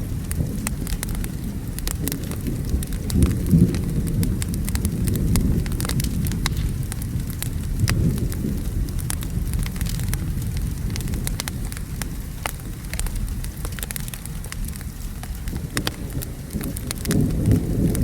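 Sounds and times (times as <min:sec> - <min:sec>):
distant thunder rumbling: 0:00.0 - 0:13.4, 0:15.4 - 0:18.0
steady rain: 0:00.0 - 0:18.0
wood fire crackling and popping: 0:00.0 - 0:18.0.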